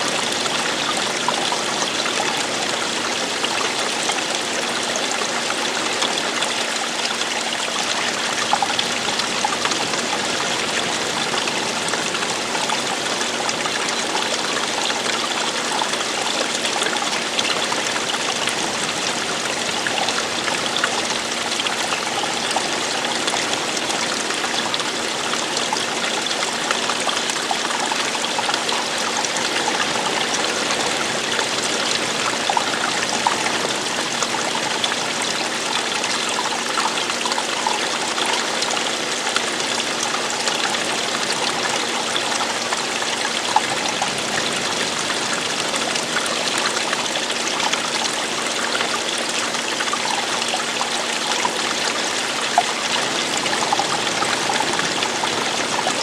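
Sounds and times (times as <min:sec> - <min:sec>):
running water splashing: 0:00.0 - 0:56.0.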